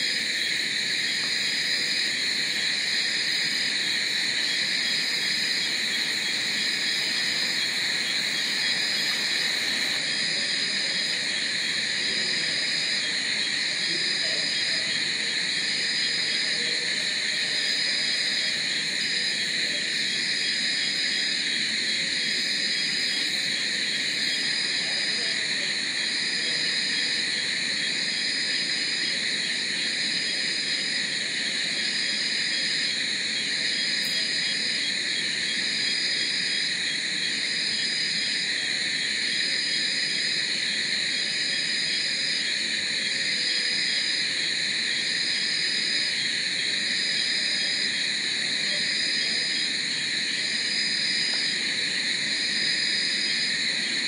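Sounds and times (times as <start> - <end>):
crickets and insects buzzing: 0.0 - 54.0
high pulsing insect call: 0.0 - 54.0.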